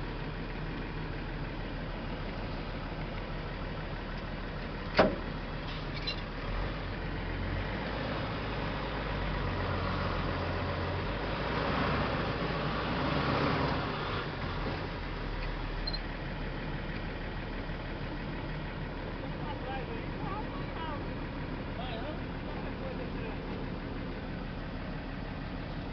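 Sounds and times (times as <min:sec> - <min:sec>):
truck engine and cab noise: 0:00.0 - 0:25.9.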